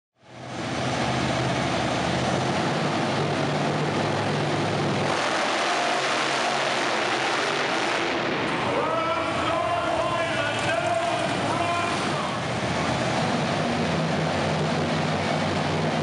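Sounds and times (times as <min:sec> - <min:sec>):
monster truck engines racing: 0:00.2 - 0:16.0.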